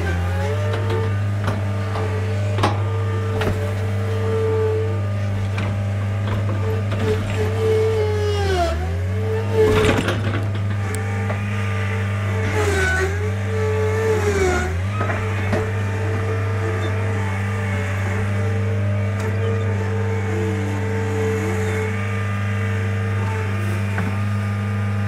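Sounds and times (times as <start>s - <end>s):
skid-steer loader engine running: 0.0s - 25.0s.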